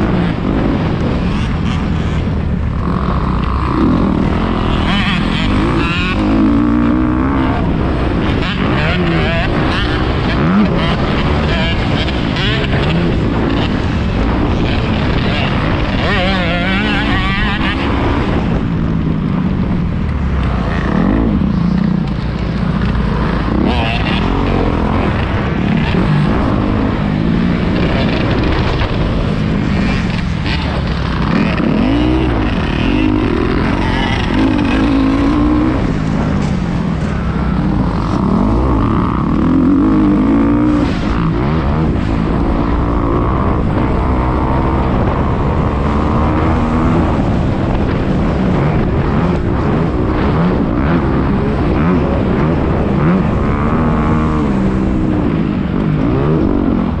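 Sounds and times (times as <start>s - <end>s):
dirt bike engine revving: 0.0s - 57.0s
steady rushing noise: 0.0s - 57.0s.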